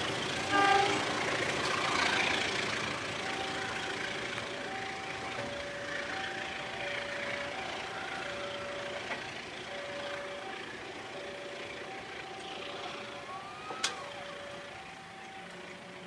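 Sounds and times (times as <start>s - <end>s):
passenger train rolling on track: 0.0s - 16.0s
two-tone electronic warning alarm: 0.0s - 16.0s.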